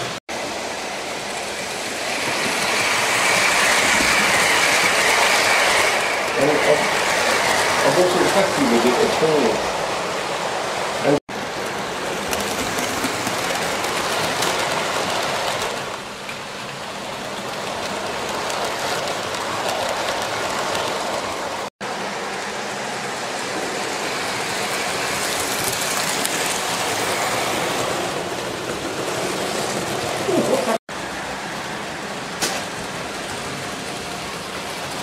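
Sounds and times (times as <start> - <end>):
model train running on track: 0.0 - 35.0.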